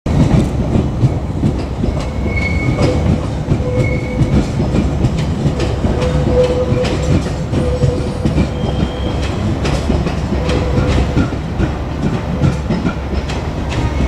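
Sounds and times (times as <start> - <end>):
train wheels clattering: 0.1 - 14.0.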